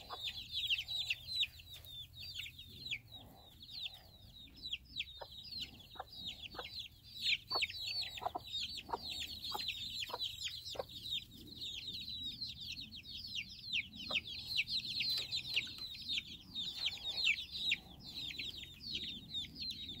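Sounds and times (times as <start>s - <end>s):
chicks peeping: 0.0s - 20.0s
hen clucking: 0.0s - 20.0s.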